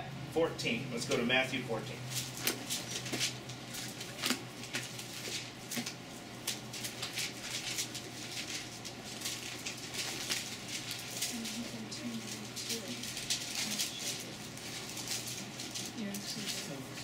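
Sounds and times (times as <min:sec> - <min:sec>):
steady low hum: 0:00.0 - 0:17.0
thin pages rustling and flicking: 0:02.1 - 0:17.0.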